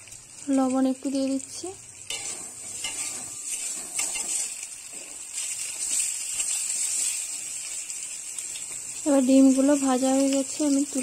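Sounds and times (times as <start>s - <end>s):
eggs sizzling in hot oil: 0.0s - 11.0s.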